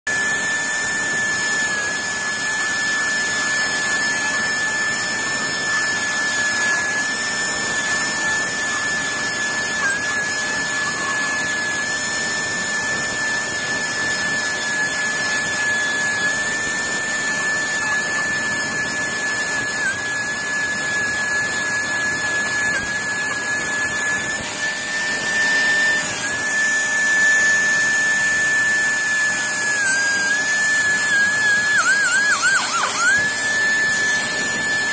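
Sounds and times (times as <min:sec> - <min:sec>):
engraving drill high-pitched whine: 0:00.1 - 0:34.9.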